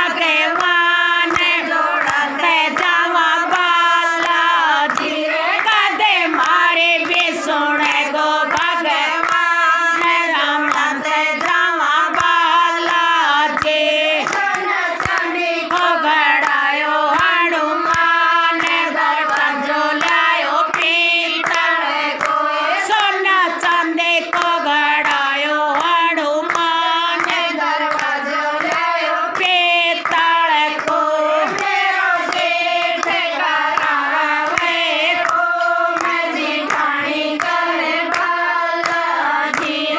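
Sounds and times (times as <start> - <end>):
hands clapping in rhythm: 0.0 - 39.9
women singing together: 0.0 - 39.9.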